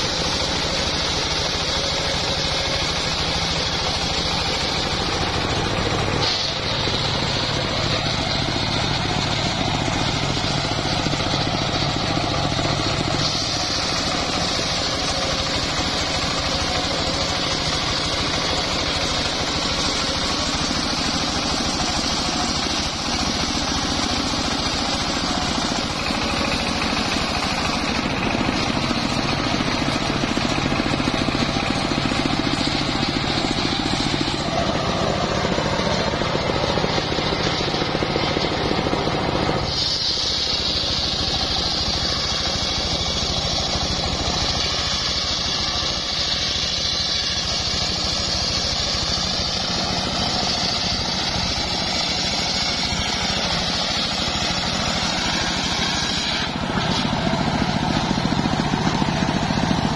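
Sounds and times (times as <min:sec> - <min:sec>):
engine drone: 0:00.0 - 0:59.9
sawmill blade cutting log: 0:00.0 - 0:59.9.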